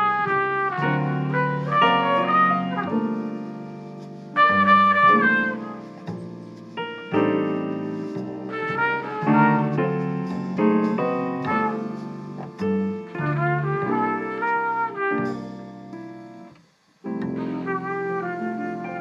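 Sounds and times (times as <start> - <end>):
cornet playing slow jazz melody: 0.0 - 16.5, 17.1 - 19.0
piano accompaniment: 0.0 - 19.0.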